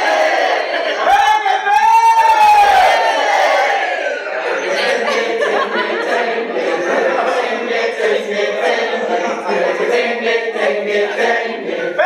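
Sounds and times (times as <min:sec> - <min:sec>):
group singing unaccompanied: 0:00.0 - 0:01.1, 0:02.5 - 0:12.0.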